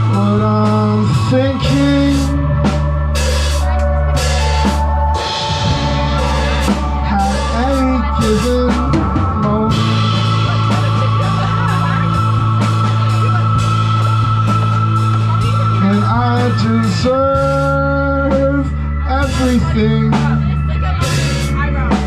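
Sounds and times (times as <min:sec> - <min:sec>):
bass notes: 0:00.0 - 0:22.0
drum kit with cymbals: 0:00.0 - 0:22.0
electric guitar melody: 0:00.0 - 0:22.0.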